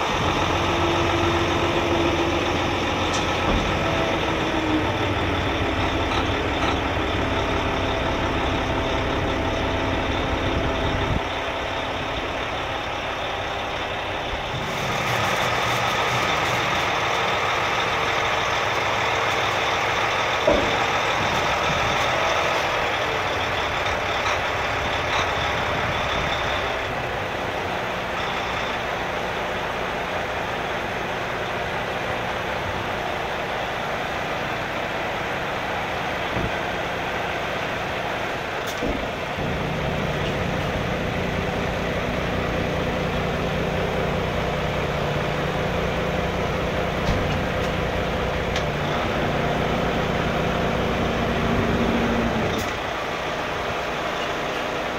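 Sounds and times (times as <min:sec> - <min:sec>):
heavy truck running: 0:00.0 - 0:54.9.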